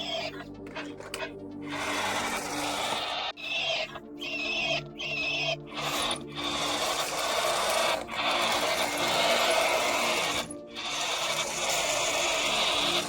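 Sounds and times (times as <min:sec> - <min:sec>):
toy motor and gears whirring: 0:00.0 - 0:13.0.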